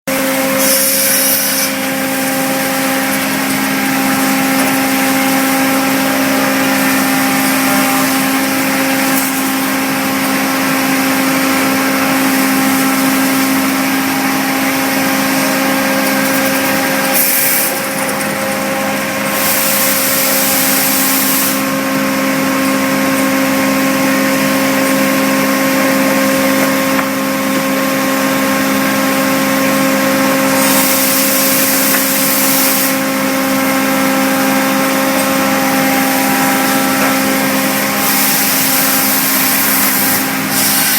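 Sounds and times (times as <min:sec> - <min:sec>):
motor whine: 0:00.1 - 0:40.9.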